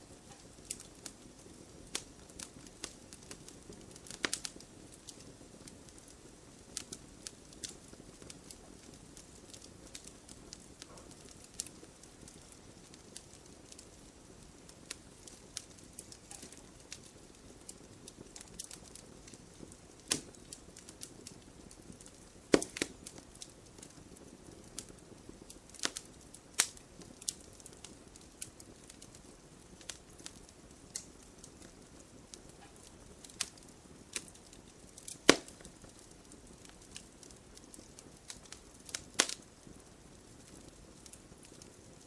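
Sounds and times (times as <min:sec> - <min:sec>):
campfire crackling and hissing: 0:00.0 - 0:42.0.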